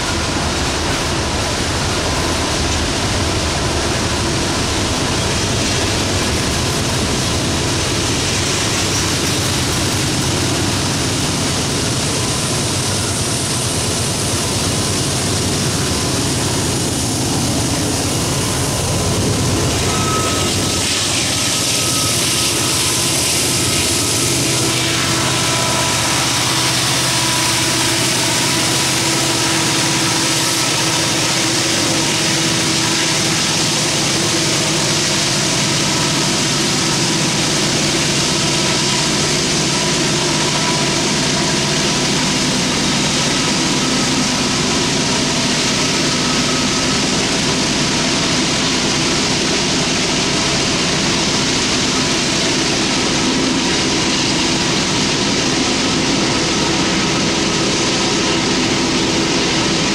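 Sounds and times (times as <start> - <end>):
diesel locomotives working hard: 0.0 - 59.9
locomotive howl: 0.0 - 59.9
train cars rumbling: 0.0 - 59.9.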